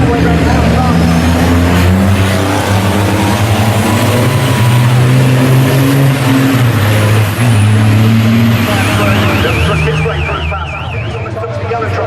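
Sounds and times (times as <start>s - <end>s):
racing truck engines revving: 0.0s - 12.0s.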